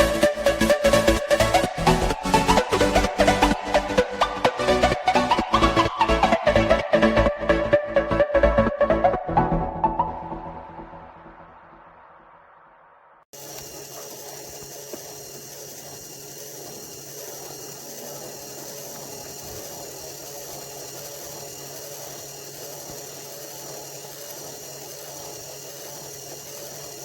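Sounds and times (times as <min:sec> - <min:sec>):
small electric motor whining: 0:00.0 - 0:10.0, 0:13.3 - 0:27.0.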